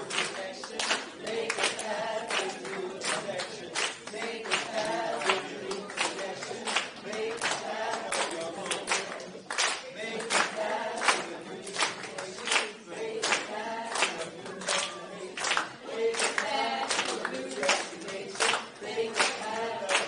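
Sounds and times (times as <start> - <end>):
group of people singing: 0.0 - 20.0
hand claps: 0.0 - 20.0.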